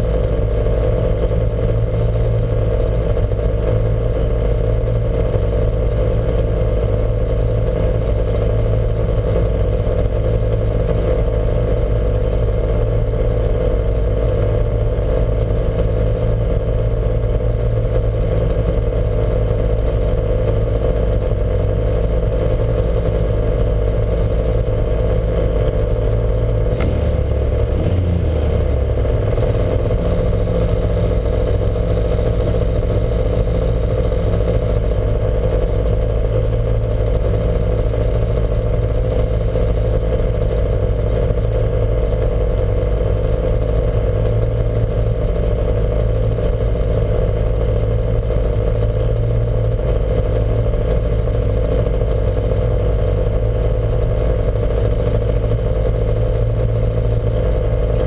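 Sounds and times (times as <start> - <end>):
car engine running under load: 0.0 - 58.0.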